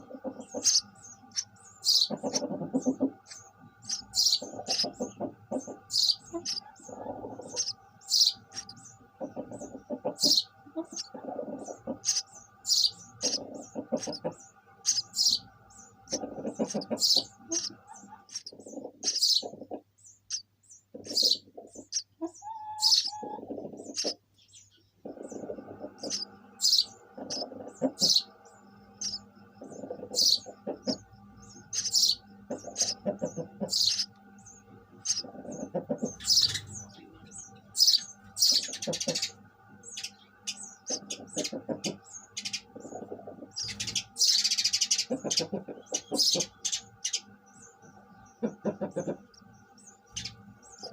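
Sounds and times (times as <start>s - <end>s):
sparrows chirping: 0.0s - 50.9s
steady background hum: 0.0s - 50.9s.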